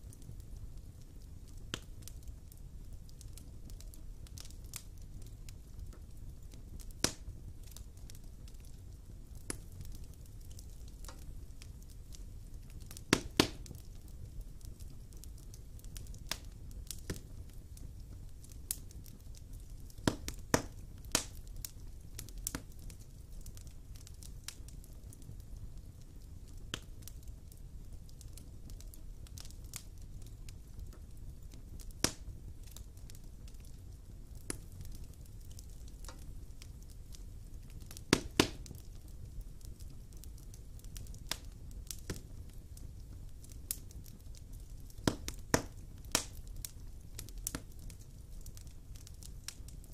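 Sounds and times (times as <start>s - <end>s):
sharp pops from fire: 0.0s - 49.9s
wood fire crackling: 0.0s - 49.9s.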